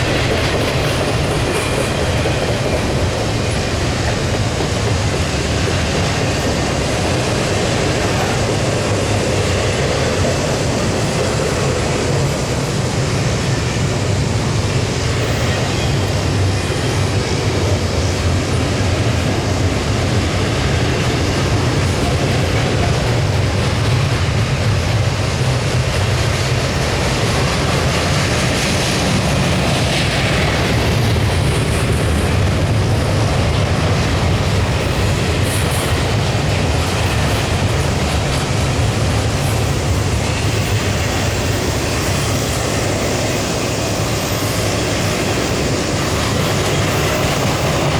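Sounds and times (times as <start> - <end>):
steel train wheels on rail: 0.0 - 47.9.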